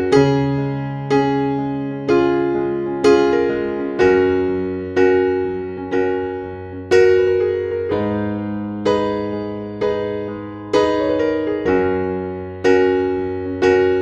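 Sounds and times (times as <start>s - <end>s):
ringing keyboard chords: 0.0s - 14.0s.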